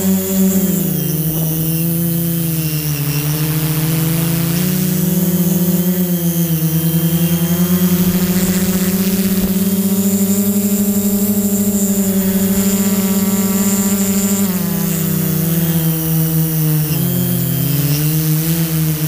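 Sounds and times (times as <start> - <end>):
drone propellers buzzing: 0.0 - 19.0
thin high whine: 0.0 - 19.0.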